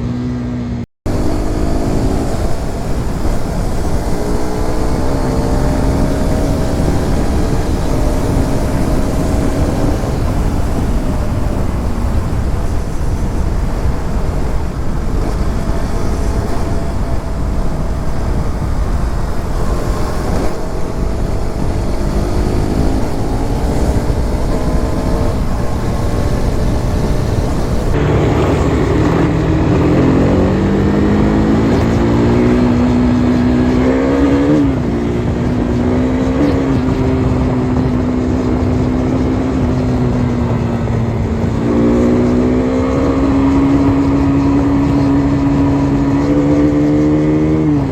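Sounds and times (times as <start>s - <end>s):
motorcycle engine revving: 0.0s - 47.9s
loud rushing noise: 1.1s - 47.9s.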